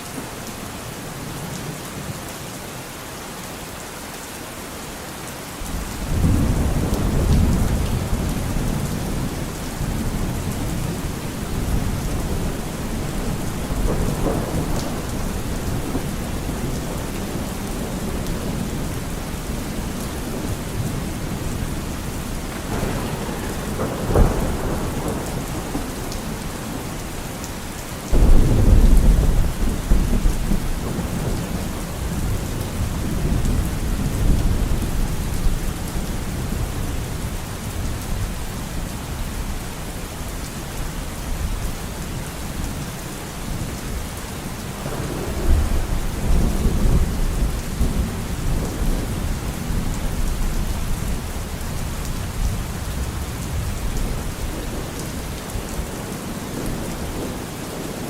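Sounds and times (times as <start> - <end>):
steady rain falling: 0.0 - 58.0
thunder rumbling: 5.7 - 38.8, 43.5 - 58.0.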